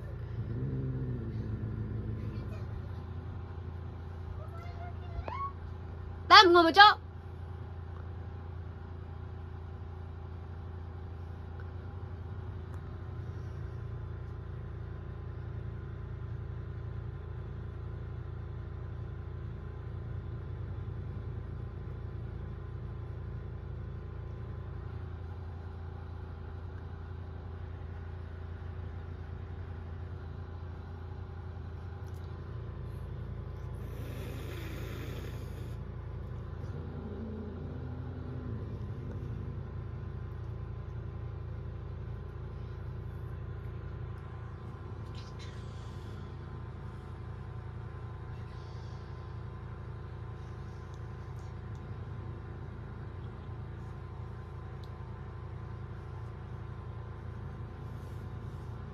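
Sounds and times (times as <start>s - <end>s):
low mechanical hum: 0.0s - 58.9s.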